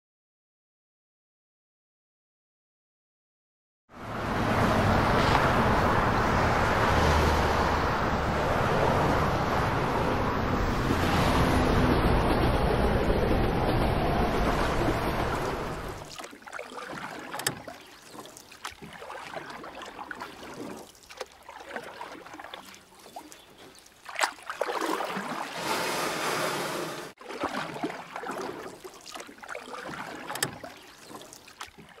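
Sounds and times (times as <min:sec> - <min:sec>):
water washing: 0:04.3 - 0:32.0.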